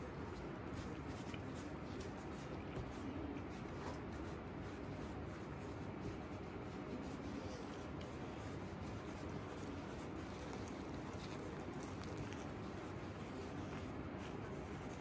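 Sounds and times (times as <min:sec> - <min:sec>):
palms rolling dough: 0:00.0 - 0:15.0
room noise: 0:00.0 - 0:15.0.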